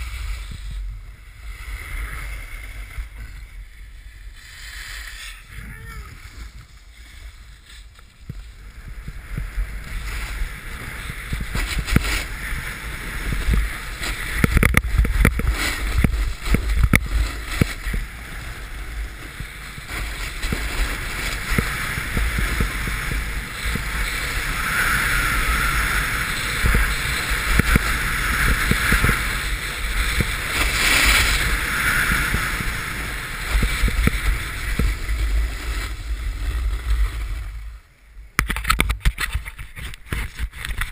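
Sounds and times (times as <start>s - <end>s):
ski edges scraping on snow: 0.0s - 37.8s, 38.5s - 40.9s
wind buffeting microphone: 0.0s - 40.9s.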